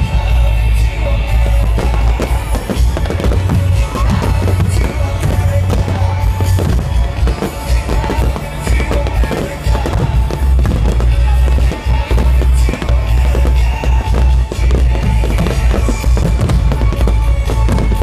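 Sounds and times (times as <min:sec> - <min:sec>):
fireworks bangs and crackles: 0:00.0 - 0:18.0
loud music with heavy bass: 0:00.0 - 0:18.0.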